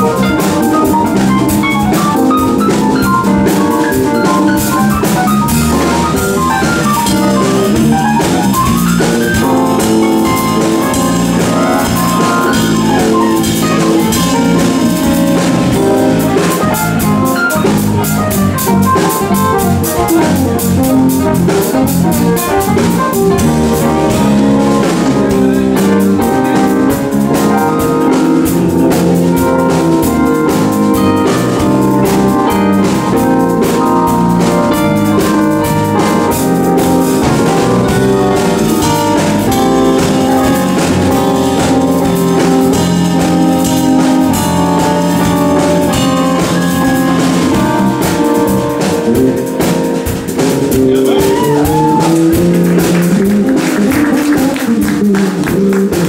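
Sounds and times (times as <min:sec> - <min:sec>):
bass: 0:00.0 - 0:56.0
drum kit: 0:00.0 - 0:56.0
electric keyboard: 0:00.0 - 0:56.0.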